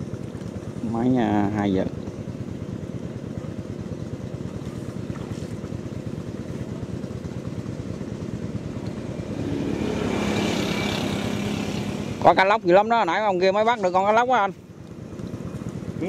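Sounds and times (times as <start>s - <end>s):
engine rumbling steadily: 0.0s - 16.0s.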